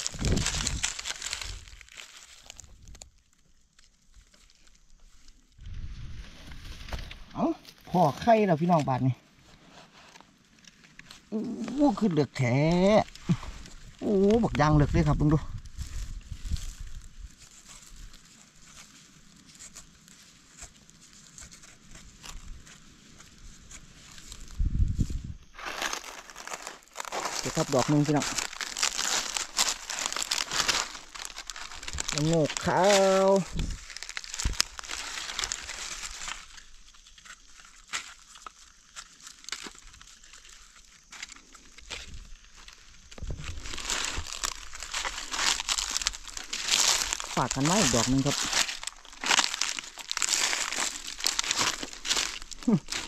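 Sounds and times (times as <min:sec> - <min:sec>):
dry leaves rustling: 0:00.0 - 0:53.0
scraping and crackling of soil: 0:00.0 - 0:53.0.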